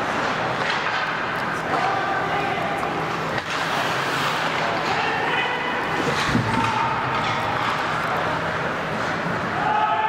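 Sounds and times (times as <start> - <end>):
arena noise: 0.0 - 10.0.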